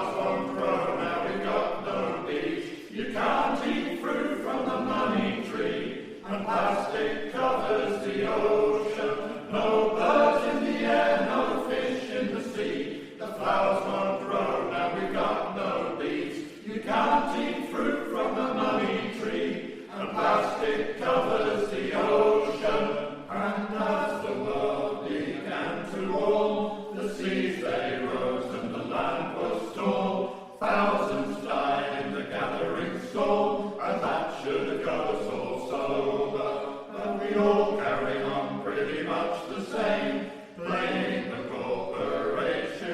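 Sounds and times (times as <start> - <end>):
male voice choir singing: 0.0 - 42.9.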